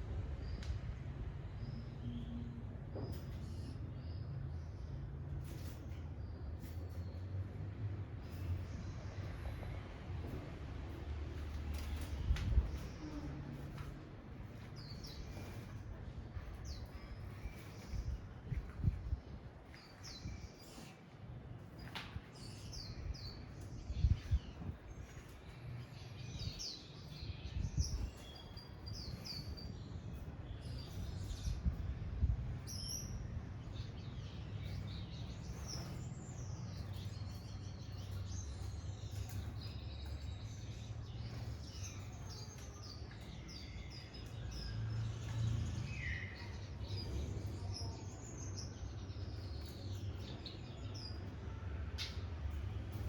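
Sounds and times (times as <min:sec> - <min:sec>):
steady low rumble: 0:00.0 - 0:51.5
birds chirping and trilling: 0:01.4 - 0:53.0.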